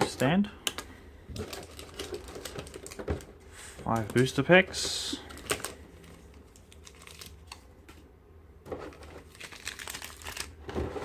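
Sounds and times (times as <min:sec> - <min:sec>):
packaging crinkling: 0:00.6 - 0:04.4, 0:05.2 - 0:07.9, 0:08.7 - 0:11.0.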